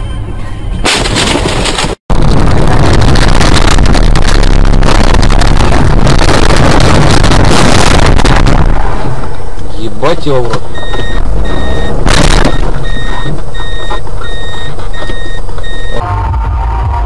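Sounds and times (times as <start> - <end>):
moving vehicle noise: 0.0 - 17.0.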